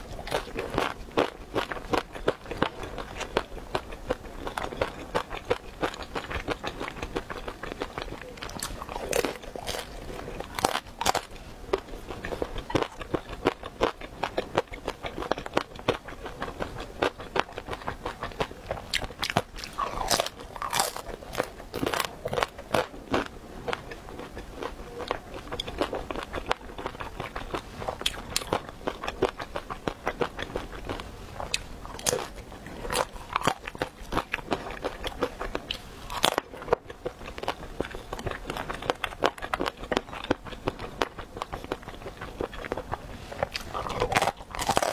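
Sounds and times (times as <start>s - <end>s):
crunchy biting and chewing: 0.0s - 44.9s.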